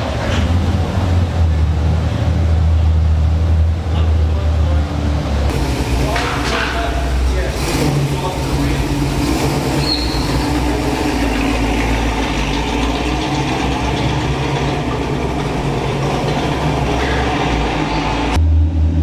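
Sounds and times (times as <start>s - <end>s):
car engine at low speed: 0.0s - 19.0s.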